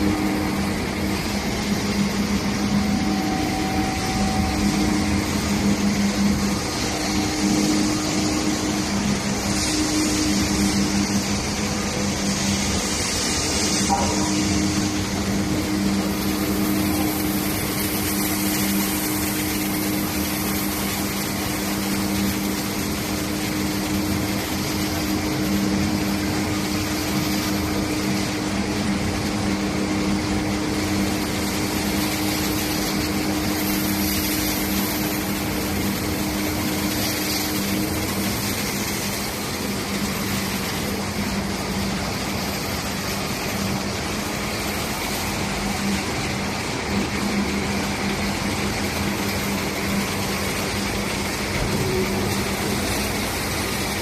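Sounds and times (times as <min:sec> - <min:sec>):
higher machine hum: 0:00.0 - 0:54.0
wire drawing machine humming: 0:00.0 - 0:54.0.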